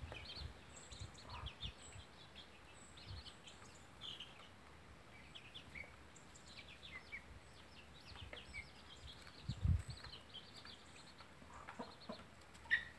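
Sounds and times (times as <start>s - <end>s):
chicks peeping: 0.0s - 12.9s.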